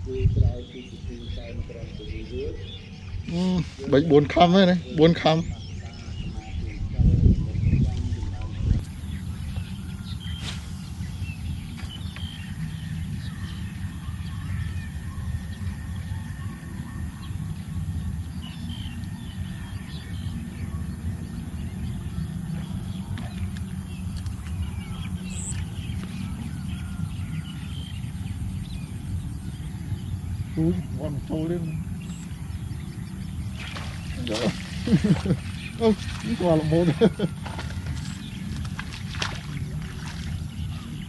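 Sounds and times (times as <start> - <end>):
bird chirps: 0.0 - 41.0.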